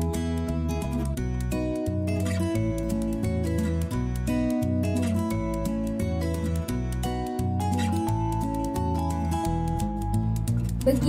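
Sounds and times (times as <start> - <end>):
plucked acoustic guitar: 0.0 - 11.0
steady bass line: 0.0 - 11.0.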